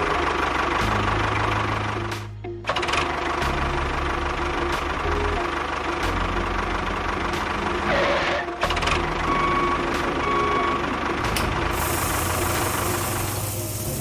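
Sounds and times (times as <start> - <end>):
model tractor engine chugging: 0.0 - 2.1, 2.7 - 9.9, 10.7 - 14.0.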